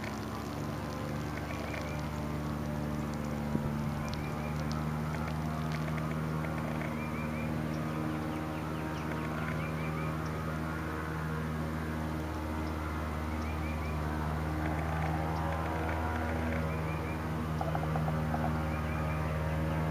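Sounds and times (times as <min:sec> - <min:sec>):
birds chirping: 0:00.0 - 0:11.1, 0:11.7 - 0:19.9
engine running steadily: 0:00.0 - 0:19.9.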